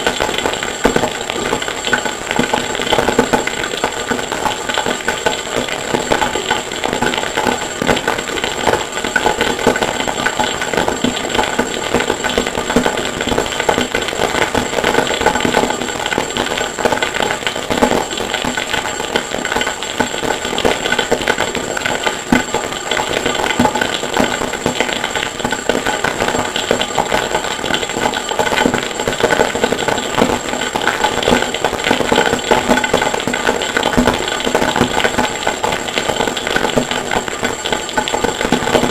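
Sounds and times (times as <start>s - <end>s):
crackling rattling harsh noise: 0.0s - 38.9s.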